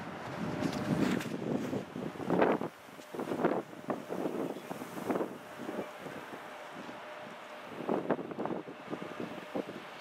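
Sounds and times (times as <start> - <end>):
train passing: 0.0 - 10.0
wind buffeting microphone: 0.0 - 10.0.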